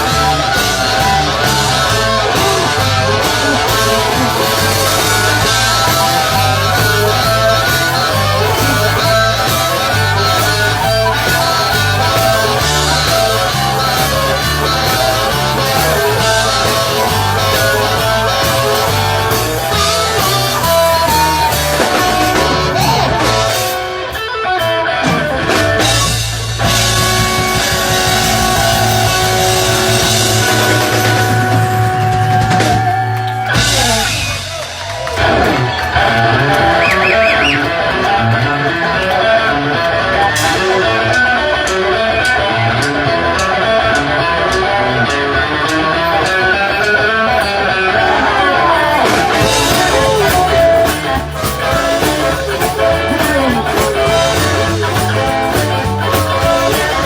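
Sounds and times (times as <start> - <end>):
bass and drums: 0.0 - 57.0
electric guitar runs: 0.0 - 57.0.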